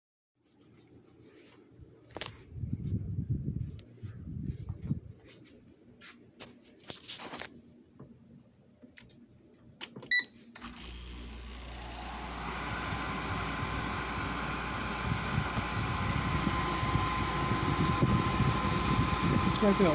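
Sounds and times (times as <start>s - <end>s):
air conditioner motor hum and fan: 1.7s - 19.9s.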